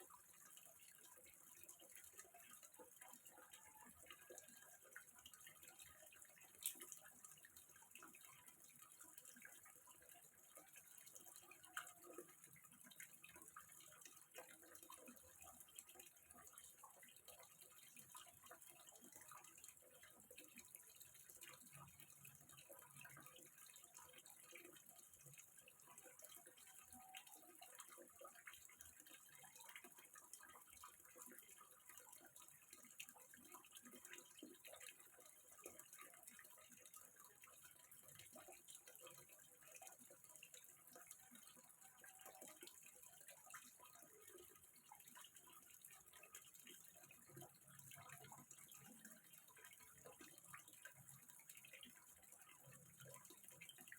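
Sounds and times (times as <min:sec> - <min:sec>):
water trickling into a pond: 0:00.0 - 0:53.9.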